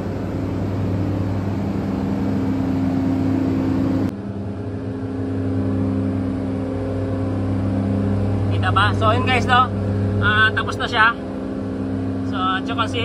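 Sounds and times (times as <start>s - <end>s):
held low machine tones: 0.0s - 13.0s
machinery hum: 0.0s - 13.0s.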